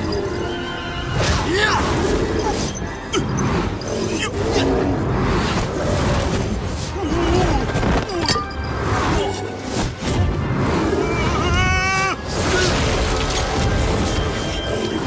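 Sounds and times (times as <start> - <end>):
dramatic music: 0.0 - 15.0.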